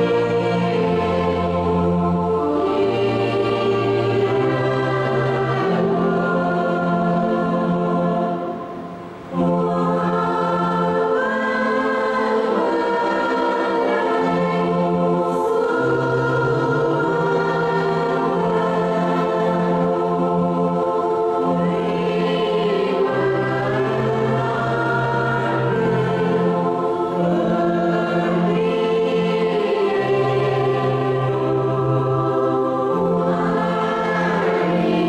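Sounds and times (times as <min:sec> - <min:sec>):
group singing a hymn: 0:00.0 - 0:35.0.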